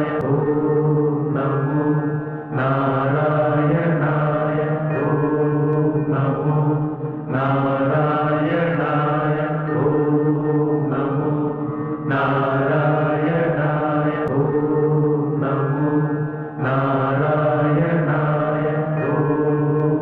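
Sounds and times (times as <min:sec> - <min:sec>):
mantra chanting: 0:00.0 - 0:20.0
steady drone: 0:00.0 - 0:20.0.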